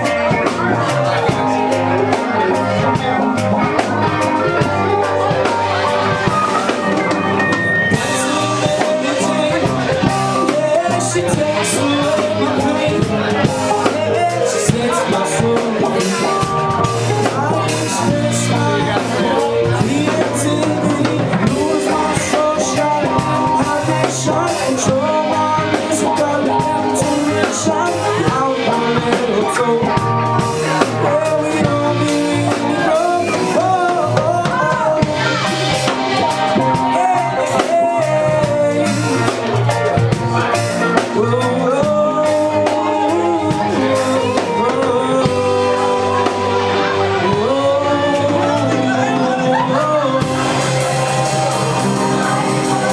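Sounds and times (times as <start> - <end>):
bending melodic lines: 0.0 - 52.9
live band playing: 0.0 - 52.9.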